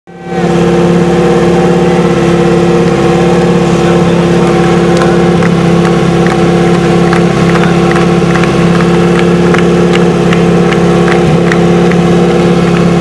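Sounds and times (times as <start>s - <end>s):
fire pump engine running: 0.1s - 13.0s.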